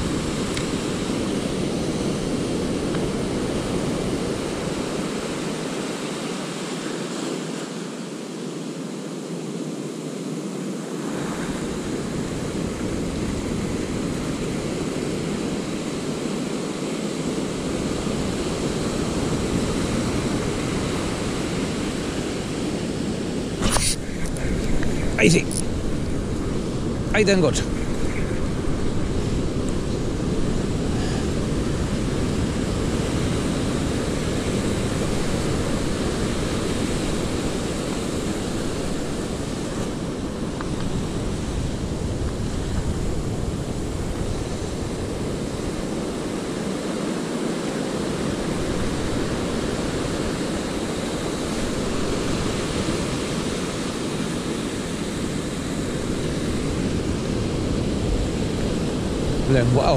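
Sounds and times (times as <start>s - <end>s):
surf breaking on beach: 10.8s - 59.9s
wind on microphone: 11.0s - 59.9s.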